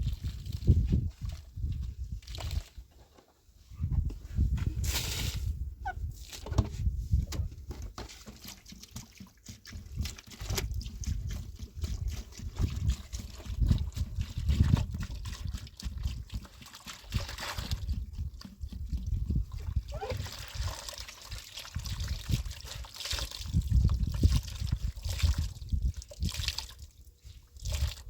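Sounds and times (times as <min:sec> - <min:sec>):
water trickling and sloshing: 0:00.0 - 0:03.3, 0:04.0 - 0:28.0.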